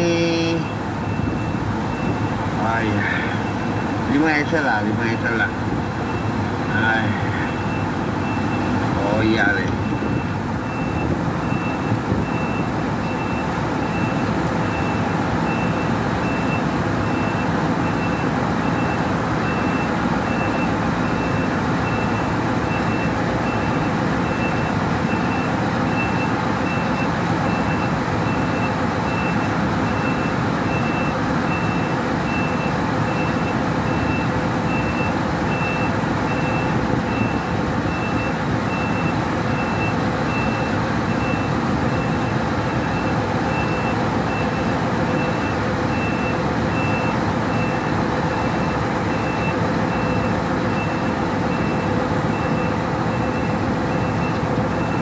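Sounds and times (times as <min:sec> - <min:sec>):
truck engine running: 0:00.0 - 0:55.0
truck reversing alarm beeps: 0:00.0 - 0:55.0.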